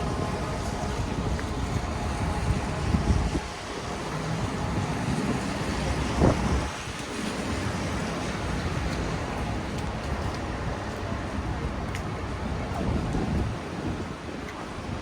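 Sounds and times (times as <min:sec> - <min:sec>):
low rumble of city traffic: 0:00.0 - 0:15.0
wind rushing over microphone: 0:00.0 - 0:15.0.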